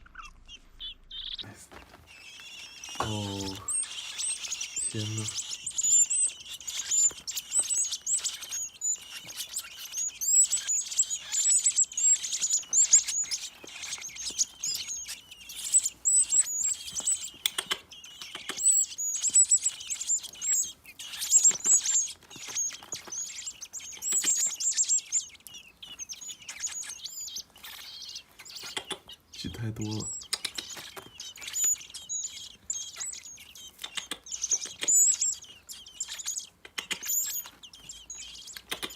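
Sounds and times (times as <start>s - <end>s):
baby birds peeping shrilly: 0.0s - 38.9s.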